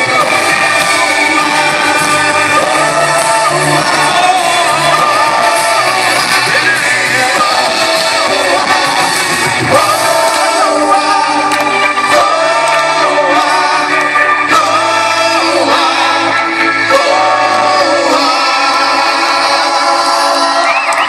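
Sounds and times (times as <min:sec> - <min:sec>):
live pop band playing: 0:00.0 - 0:21.0
voices singing long notes: 0:00.0 - 0:21.0.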